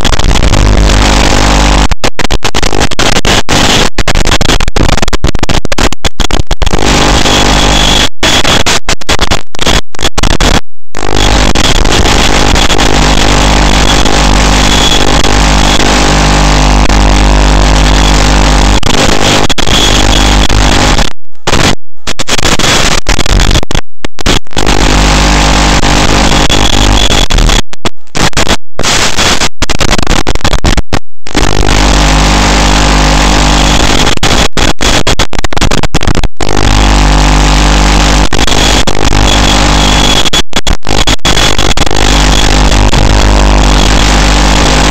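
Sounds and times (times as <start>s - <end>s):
loud harsh static: 0.0s - 44.9s.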